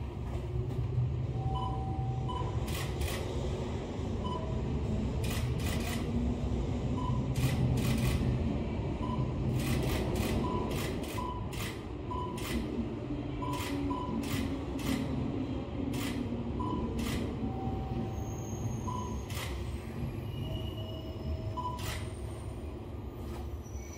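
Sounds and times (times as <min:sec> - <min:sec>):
electric train rumbling: 0:00.0 - 0:23.9.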